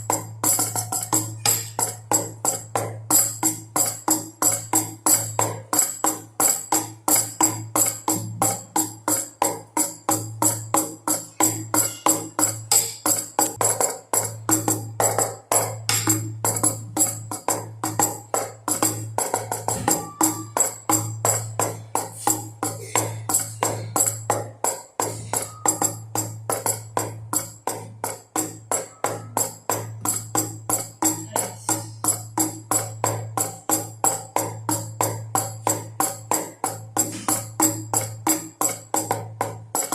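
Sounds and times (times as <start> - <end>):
drum beats: 0.0 - 39.9.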